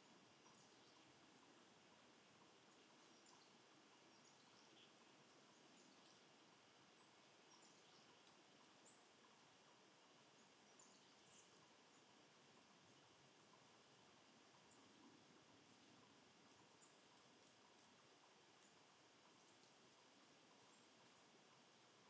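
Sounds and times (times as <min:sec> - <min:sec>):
faint bird chirps: 0:00.0 - 0:22.0
low steady hiss: 0:00.0 - 0:22.0.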